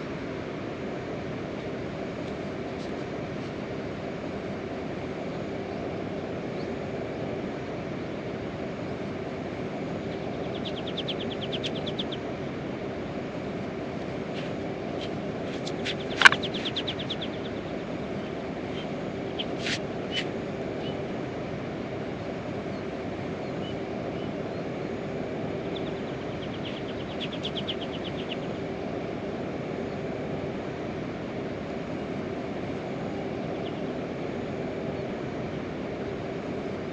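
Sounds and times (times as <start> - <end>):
faint steady hum: 0.0 - 36.9
rapid chirping trills: 4.5 - 30.2, 31.9 - 36.4.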